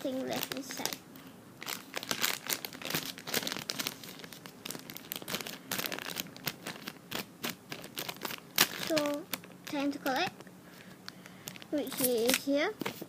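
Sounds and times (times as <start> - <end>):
plastic wrapper crinkling: 0.0 - 1.0, 1.6 - 13.0.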